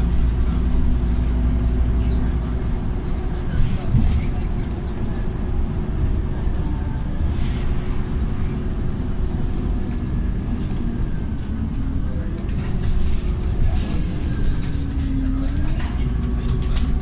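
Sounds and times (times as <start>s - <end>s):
bus diesel engine: 0.0s - 17.0s
road rumble: 0.0s - 17.0s.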